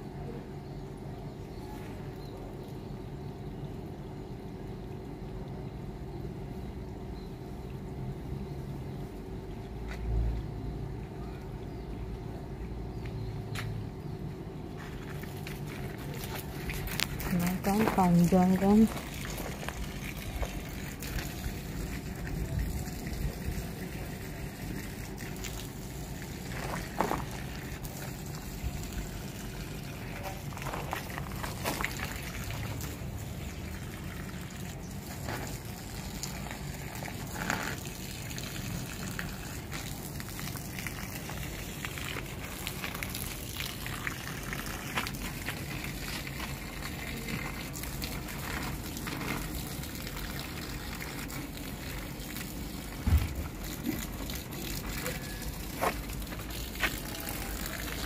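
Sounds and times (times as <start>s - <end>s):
hose water splashing on plants: 4.7s - 58.0s.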